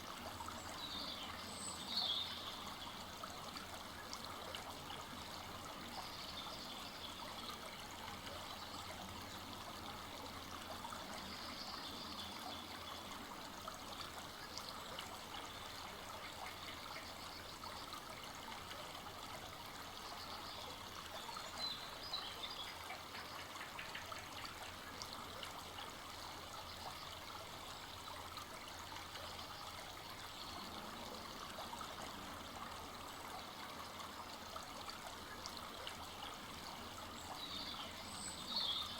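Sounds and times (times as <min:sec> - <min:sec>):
forest stream rushing: 0:00.0 - 0:38.9.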